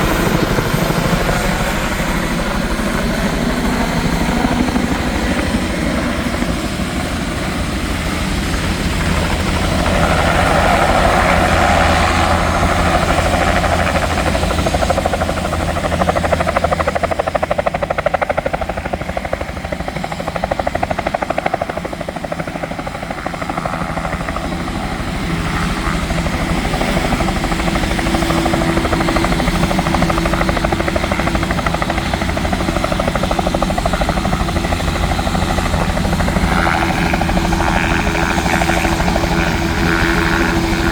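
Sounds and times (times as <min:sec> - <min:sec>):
helicopter rotor chopping: 0:00.0 - 0:40.9.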